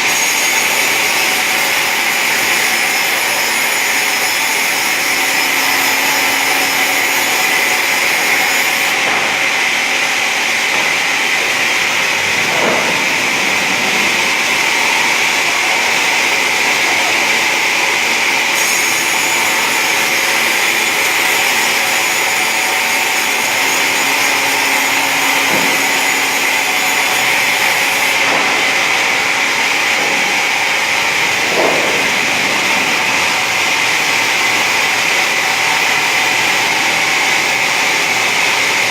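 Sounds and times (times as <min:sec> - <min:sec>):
wood-sawing machine whirring: 0:00.0 - 0:38.9.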